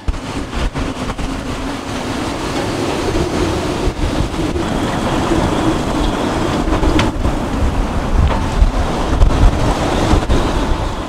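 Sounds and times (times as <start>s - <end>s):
strong wind buffeting microphone: 0.0s - 11.0s
waves washing around boat: 0.0s - 11.0s.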